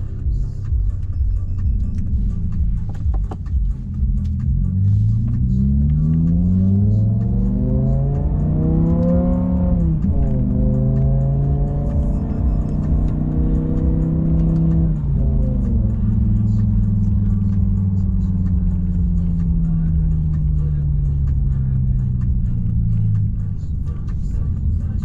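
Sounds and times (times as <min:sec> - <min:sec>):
car engine revving inside cabin: 0:00.0 - 0:25.0.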